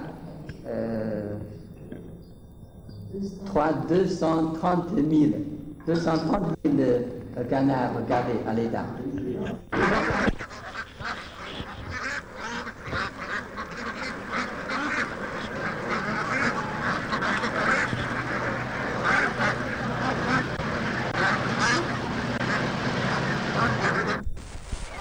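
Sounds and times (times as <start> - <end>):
ducks quacking: 0.0 - 25.0.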